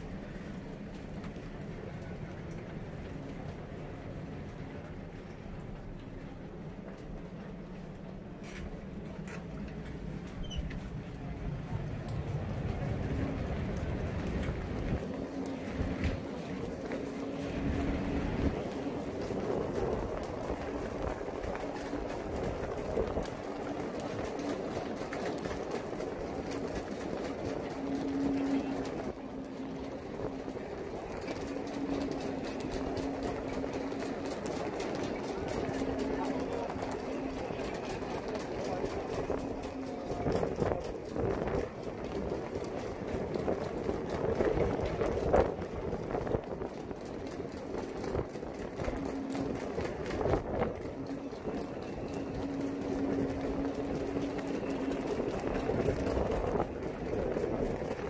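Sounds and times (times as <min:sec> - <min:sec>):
footsteps on boat deck: 0:00.0 - 0:58.0
outdoor background noise: 0:00.0 - 0:58.0.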